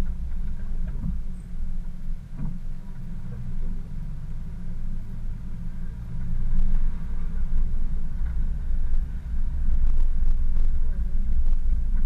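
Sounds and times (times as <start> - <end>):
off-road vehicle driving on gravel: 0.0 - 12.0.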